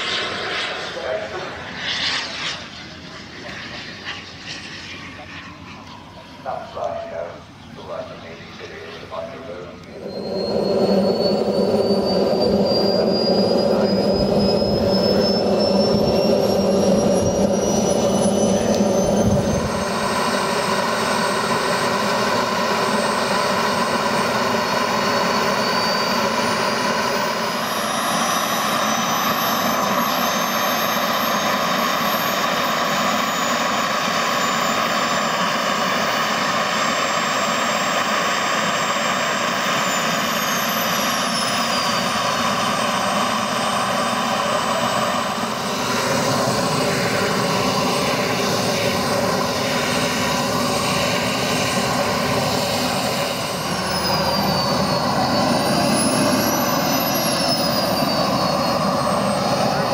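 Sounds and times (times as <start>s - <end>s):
gas turbine starting up: 5.1s - 59.9s.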